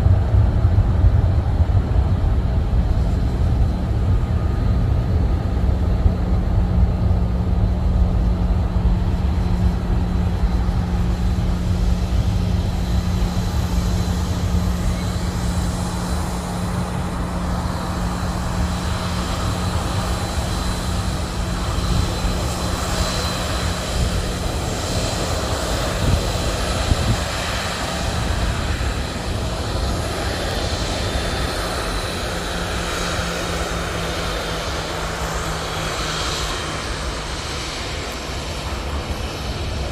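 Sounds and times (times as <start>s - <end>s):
airliner engine rumble: 0.0s - 39.9s
high engine whine: 0.0s - 39.9s.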